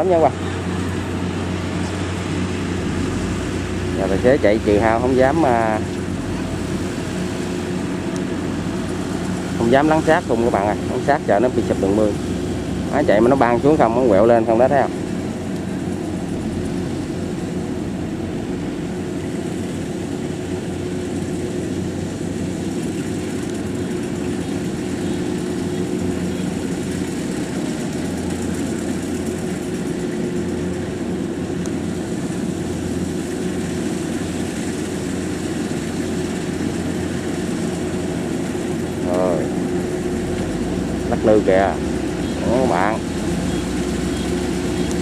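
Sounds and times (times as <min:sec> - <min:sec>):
diesel engine running under load: 0:00.0 - 0:45.0
threshing drum and fan hum: 0:00.0 - 0:45.0.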